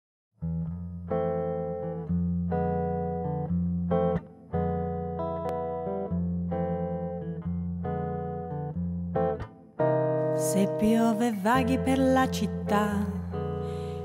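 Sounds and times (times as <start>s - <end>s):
guitar playing held chords: 0.4s - 14.0s.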